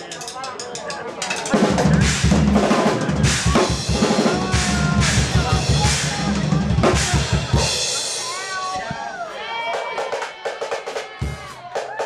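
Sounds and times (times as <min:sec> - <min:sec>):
drum kit solo: 0:01.1 - 0:12.0.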